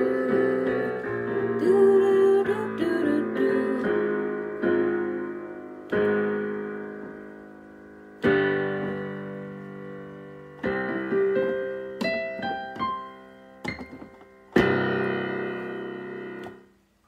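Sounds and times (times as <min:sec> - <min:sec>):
solo piano playing slow chords: 0:00.0 - 0:16.8.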